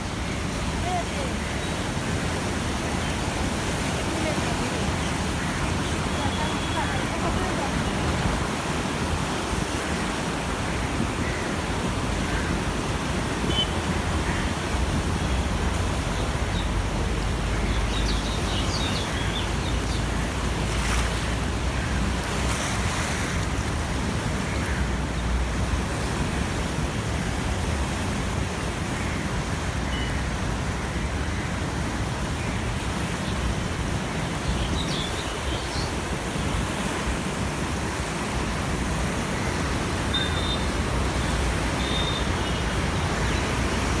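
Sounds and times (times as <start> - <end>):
flooded river rushing: 0.0 - 44.0.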